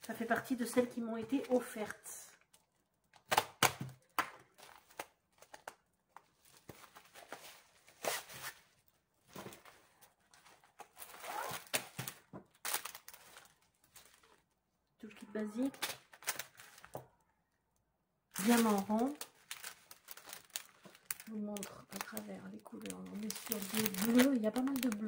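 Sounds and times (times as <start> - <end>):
wrapping rustling and crinkling: 0.0 - 17.3, 18.3 - 25.0.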